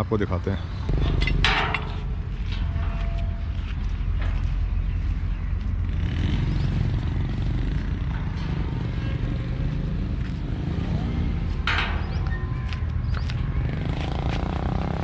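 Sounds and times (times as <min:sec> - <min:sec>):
diesel locomotive engine rumble: 0:00.8 - 0:15.0.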